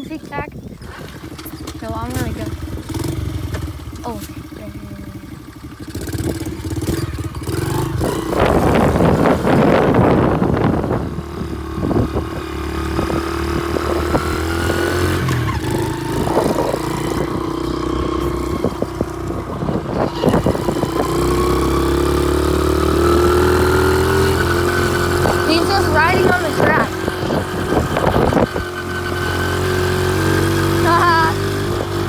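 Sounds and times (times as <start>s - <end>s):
pit bike engine running: 0.0s - 32.0s.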